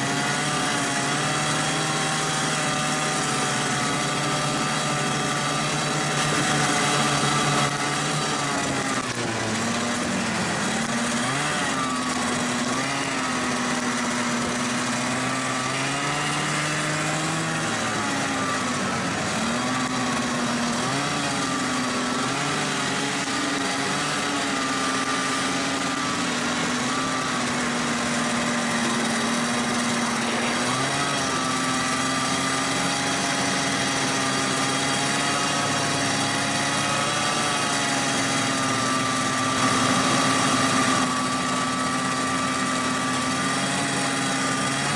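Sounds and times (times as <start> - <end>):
snowmobile engine running: 0.0 - 44.9.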